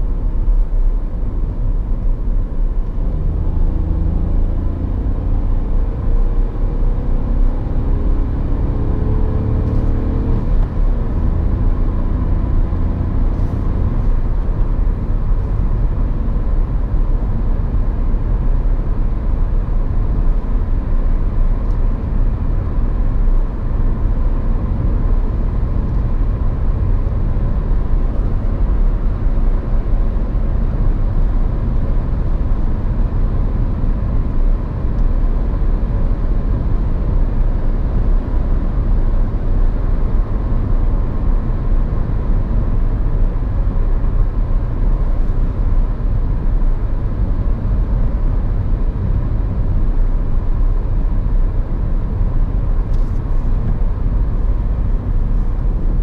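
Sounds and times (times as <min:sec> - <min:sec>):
car engine hum: 0:00.0 - 0:56.0.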